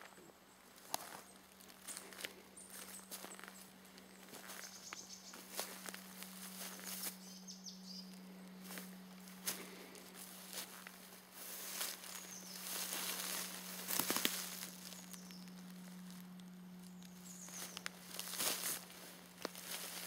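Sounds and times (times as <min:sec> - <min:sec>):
footsteps on dry forest floor: 0:00.0 - 0:20.0
low hum: 0:00.0 - 0:20.0
twigs crackling: 0:00.7 - 0:20.0.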